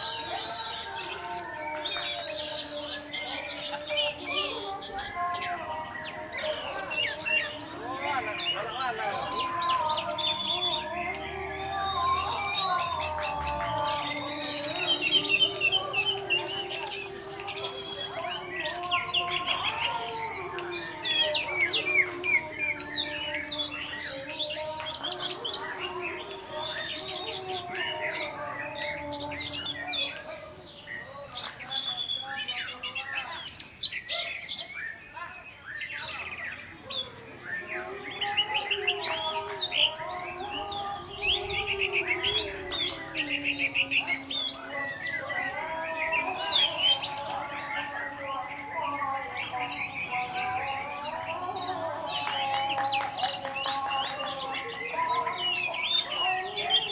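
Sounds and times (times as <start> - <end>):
thrush singing whistled phrases: 0.0 - 56.9.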